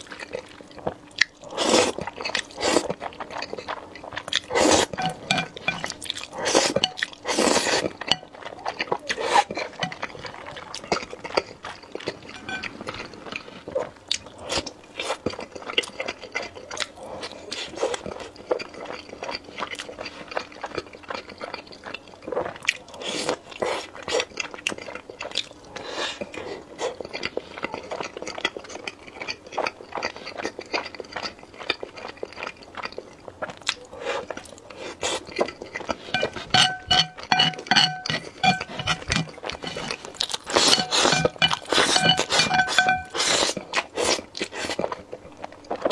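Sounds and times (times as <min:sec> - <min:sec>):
chewing with wet mouth clicks: 0:00.0 - 0:45.9.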